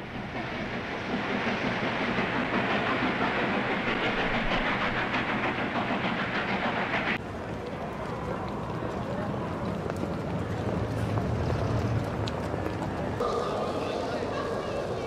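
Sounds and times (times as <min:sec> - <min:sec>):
train clattering on tracks: 0:00.0 - 0:15.0.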